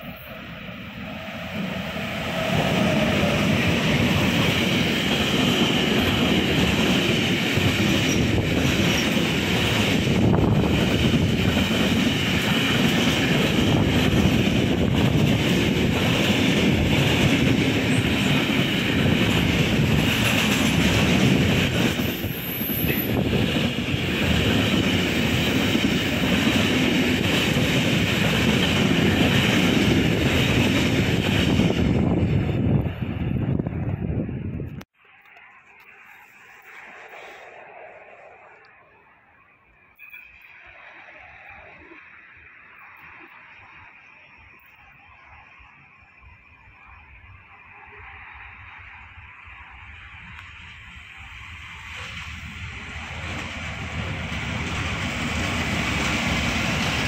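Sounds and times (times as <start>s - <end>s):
electric locomotives passing: 0.0s - 57.0s.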